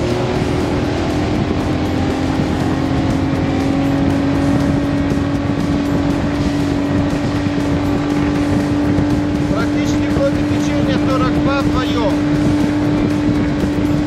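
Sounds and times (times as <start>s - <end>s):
outboard engine running: 0.0s - 14.0s.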